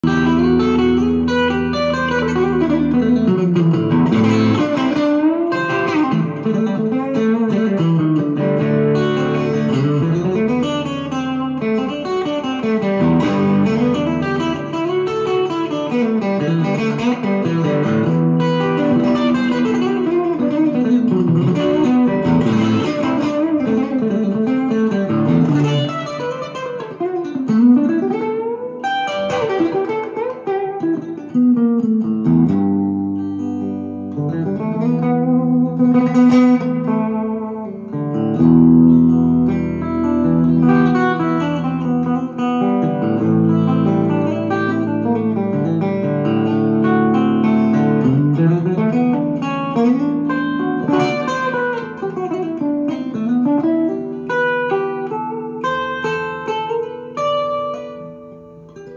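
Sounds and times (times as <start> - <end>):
electric guitar through amplifier: 0.0 - 58.9.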